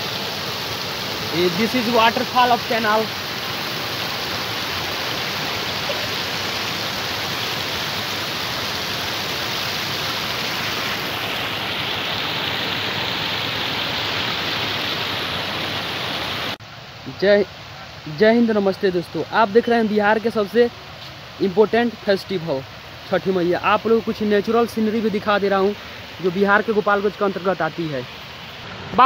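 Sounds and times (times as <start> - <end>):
water rushing over weir: 0.0 - 29.0.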